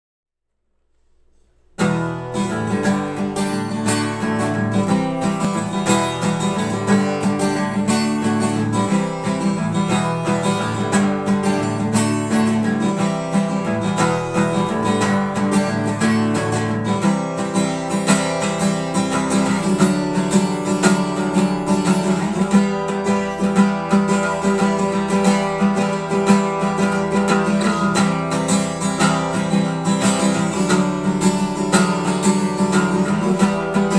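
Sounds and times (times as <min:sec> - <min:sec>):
acoustic guitar playing: 0:00.7 - 0:33.9.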